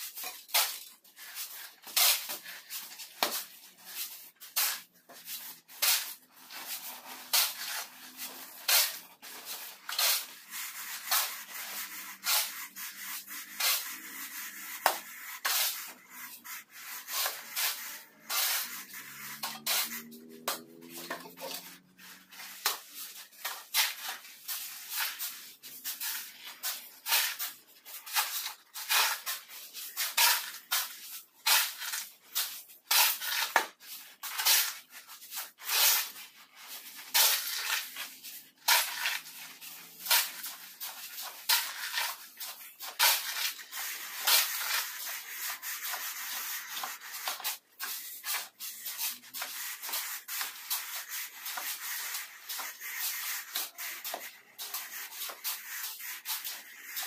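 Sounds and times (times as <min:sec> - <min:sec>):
shovels scraping mortar: 0:00.0 - 0:57.0.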